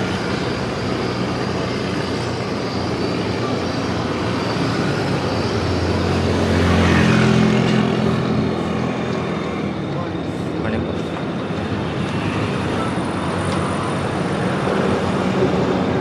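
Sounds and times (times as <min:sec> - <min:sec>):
passing vehicle engine hum: 0:00.0 - 0:16.0
road and wind noise: 0:00.0 - 0:16.0.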